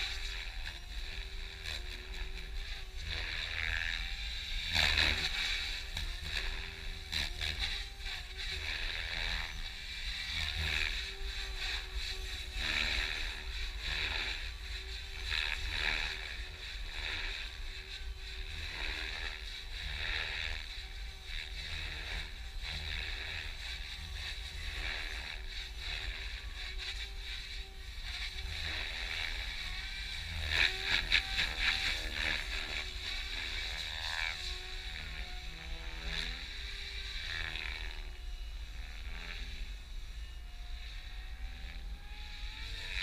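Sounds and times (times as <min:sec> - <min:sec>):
electric motor whining: 0:00.0 - 0:43.0.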